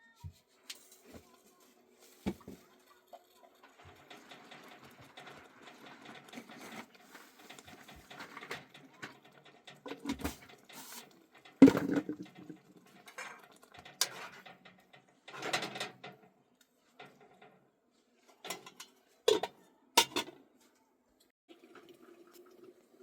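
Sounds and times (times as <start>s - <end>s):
knocks and clatters of handling: 0.2s - 20.9s.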